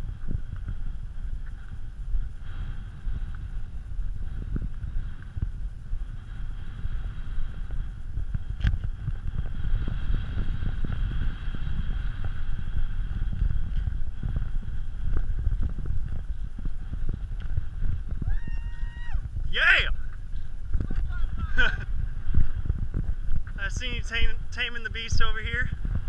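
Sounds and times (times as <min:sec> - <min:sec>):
faint steady hum: 0:00.0 - 0:26.0
gusty wind buffeting microphone: 0:00.0 - 0:26.0.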